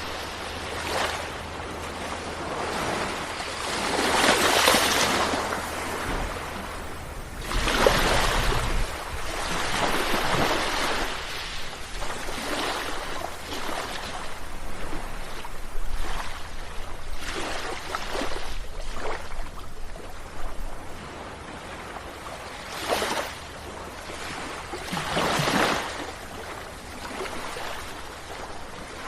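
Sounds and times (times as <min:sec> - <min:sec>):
sea waves breaking on shore: 0:00.0 - 0:29.0.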